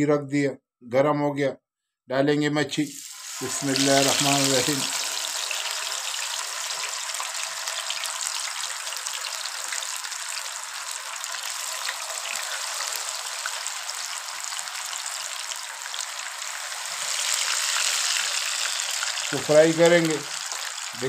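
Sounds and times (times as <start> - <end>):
fish deep-frying sizzle: 2.9 - 21.0.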